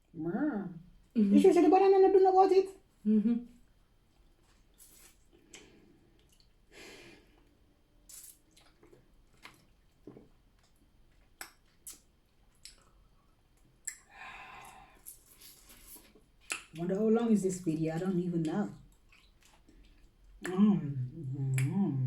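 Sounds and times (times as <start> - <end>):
soft chewing with smacks: 2.8 - 22.0.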